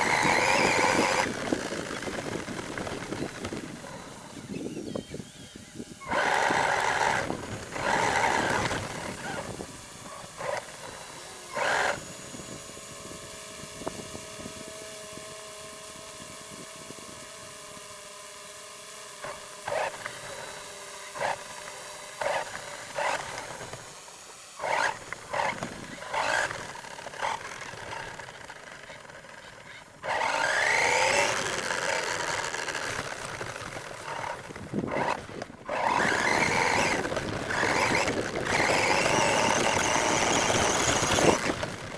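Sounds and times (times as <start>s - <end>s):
toy truck motor whining: 0.0s - 41.9s.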